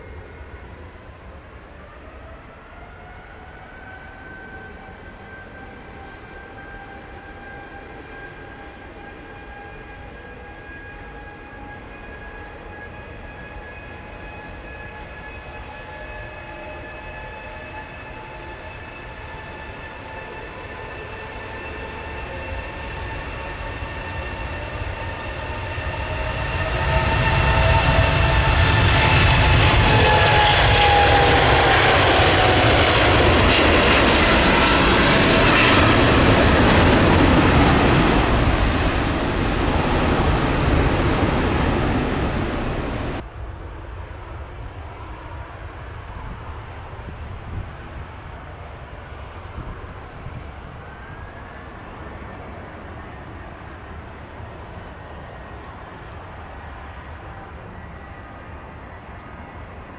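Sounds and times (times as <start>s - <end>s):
jet airliner taking off: 0.0s - 59.9s.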